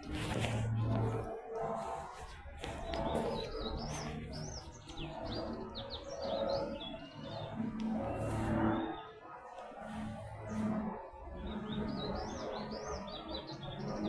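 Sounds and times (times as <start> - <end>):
small birds chirping: 0.1 - 9.2, 9.9 - 14.0.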